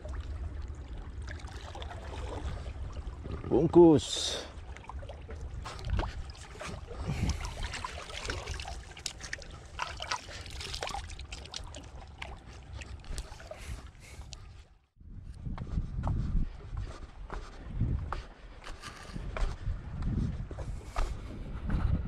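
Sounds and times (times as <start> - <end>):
water lapping and trickling: 0.0 - 22.0.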